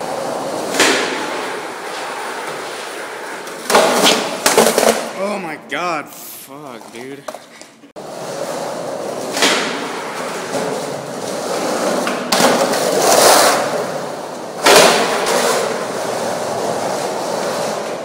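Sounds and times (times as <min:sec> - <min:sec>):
skateboard wheels rolling on concrete: 0:00.0 - 0:05.2, 0:06.8 - 0:18.0.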